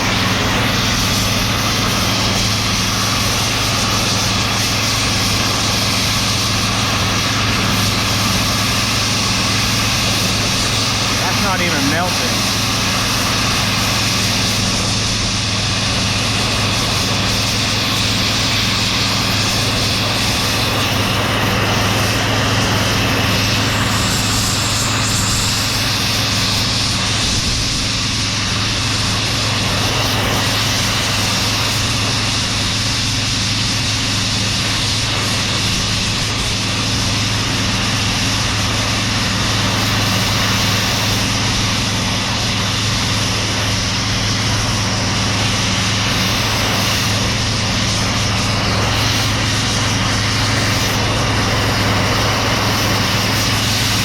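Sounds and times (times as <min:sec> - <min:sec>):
cutting torch flame roaring: 0:00.0 - 0:54.0.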